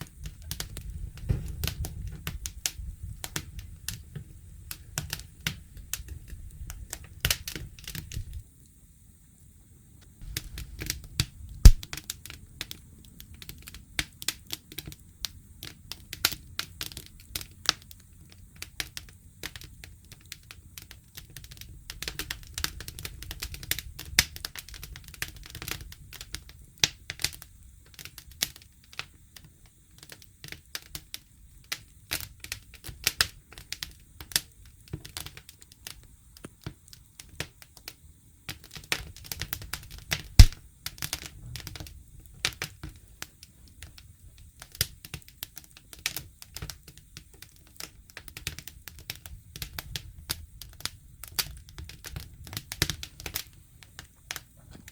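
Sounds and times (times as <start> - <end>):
campfire crackling and popping: 0.0 - 8.4, 10.0 - 54.9.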